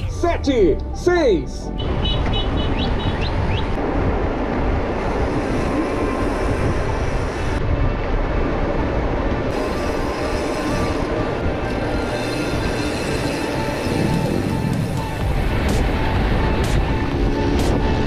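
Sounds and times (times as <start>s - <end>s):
wind rumble on microphone: 1.8s - 18.0s.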